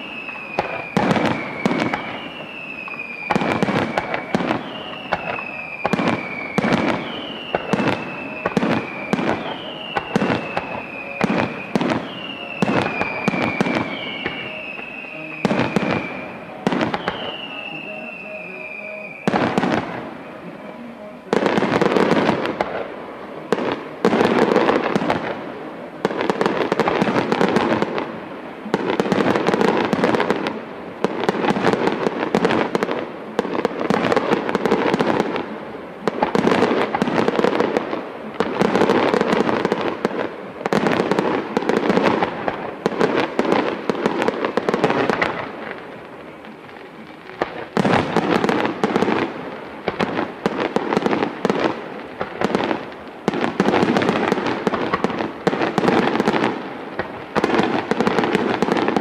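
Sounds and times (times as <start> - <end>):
fireworks crackling and popping: 0.0 - 59.0.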